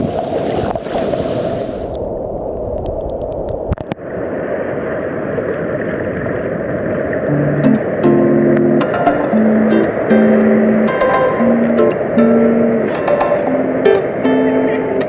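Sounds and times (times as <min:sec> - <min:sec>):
surf and rushing water: 0:00.0 - 0:15.0.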